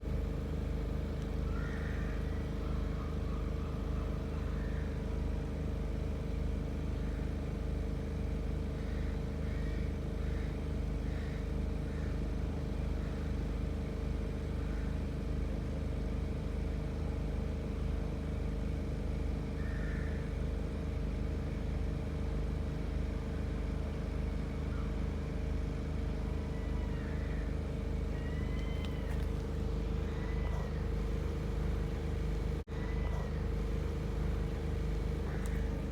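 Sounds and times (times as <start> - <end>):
generator engine running: 0.0 - 19.0, 21.5 - 35.9.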